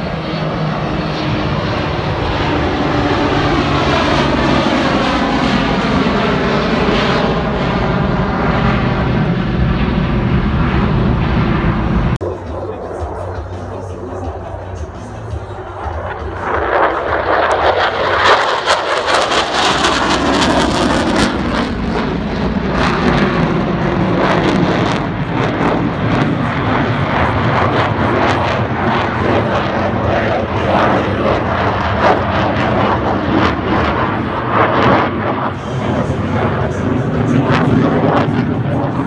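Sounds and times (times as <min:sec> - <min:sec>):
jet engine roar flying past: 0:00.0 - 0:39.0.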